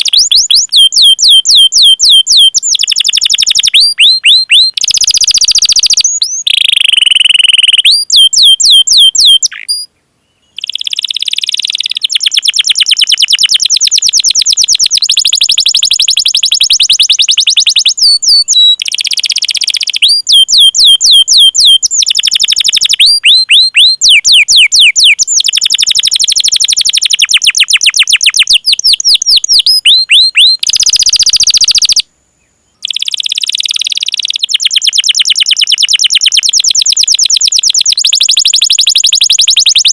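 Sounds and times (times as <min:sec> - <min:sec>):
canary singing: 0:00.0 - 0:32.0, 0:32.8 - 0:39.9.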